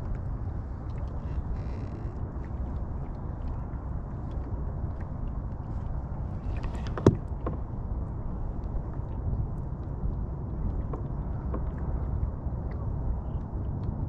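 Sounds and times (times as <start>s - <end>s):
choppy water around boat: 0.0s - 14.0s
wind rumble: 0.0s - 14.0s.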